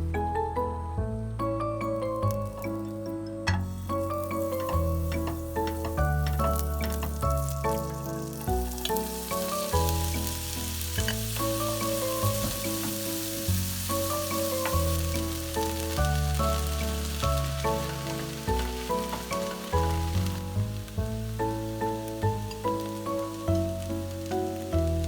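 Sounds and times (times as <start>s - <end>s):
background music: 0.0s - 25.0s
food sizzling in a frying pan: 3.6s - 25.0s.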